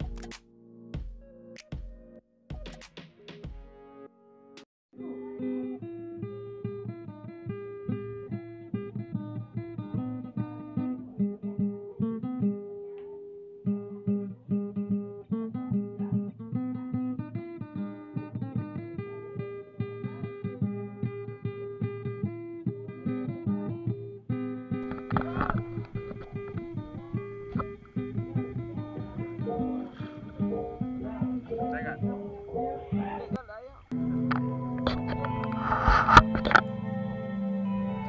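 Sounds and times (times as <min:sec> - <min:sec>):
acoustic guitar picking melody: 0:05.0 - 0:38.0.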